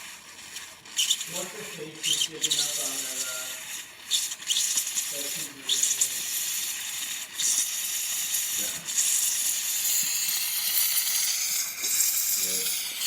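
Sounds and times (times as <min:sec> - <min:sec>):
steam wand hissing: 0:00.0 - 0:13.0.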